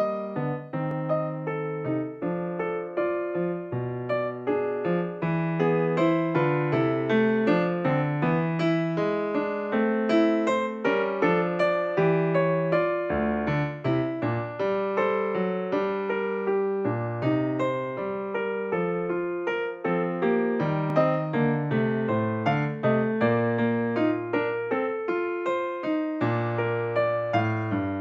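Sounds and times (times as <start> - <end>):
electric piano chords: 0.0 - 28.0.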